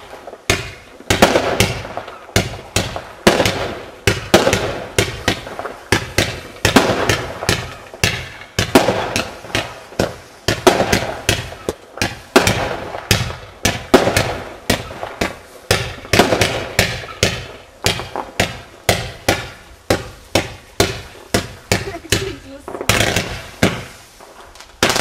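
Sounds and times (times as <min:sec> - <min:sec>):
fireworks exploding: 0:00.0 - 0:25.0.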